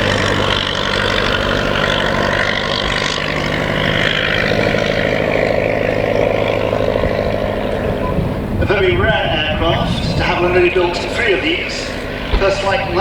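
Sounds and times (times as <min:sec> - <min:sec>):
biplane engine and propeller drone: 0:00.0 - 0:13.0.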